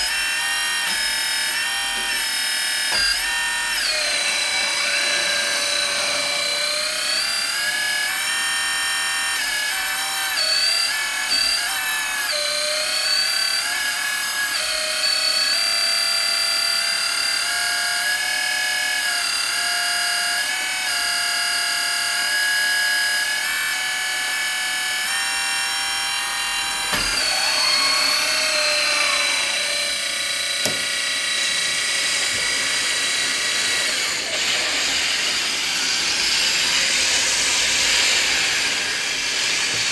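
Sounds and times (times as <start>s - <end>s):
hydraulic pump whining: 0.0s - 17.5s, 22.5s - 39.9s.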